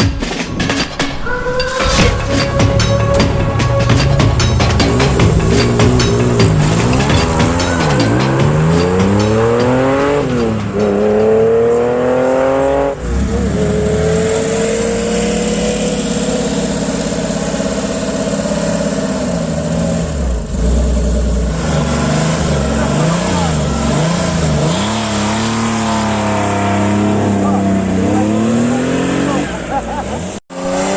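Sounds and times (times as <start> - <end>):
rally car engine accelerating: 1.8 - 30.9.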